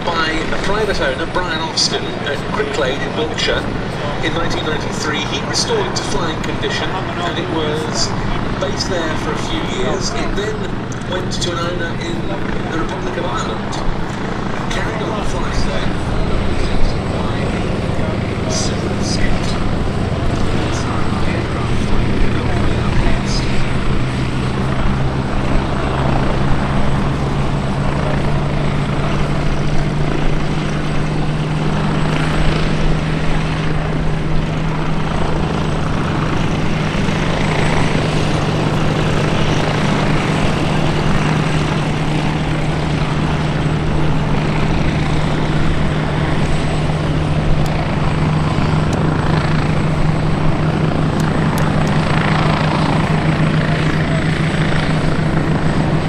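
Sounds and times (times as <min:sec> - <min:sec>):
helicopter drone: 0:00.0 - 0:56.0
low hum: 0:00.0 - 0:56.0.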